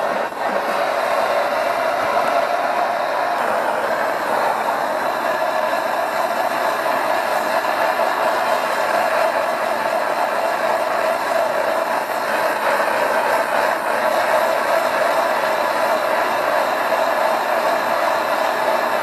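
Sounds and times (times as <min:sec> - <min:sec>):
propane torch burning: 0:00.0 - 0:19.0.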